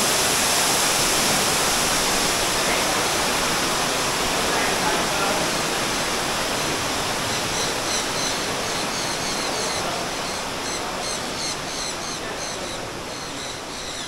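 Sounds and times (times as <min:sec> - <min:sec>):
falling water rushing: 0:00.0 - 0:14.0
birds chirping: 0:02.5 - 0:14.0.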